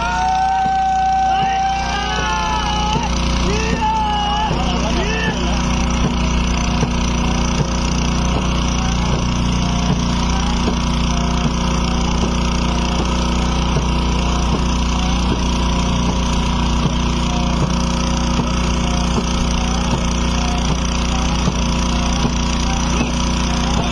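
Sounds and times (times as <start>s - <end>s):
motorboat engine running: 0.0s - 23.9s.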